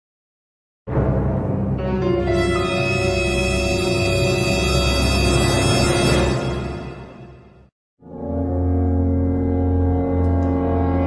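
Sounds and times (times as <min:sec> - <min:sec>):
deep brassy horn blast: 0:00.9 - 0:11.0.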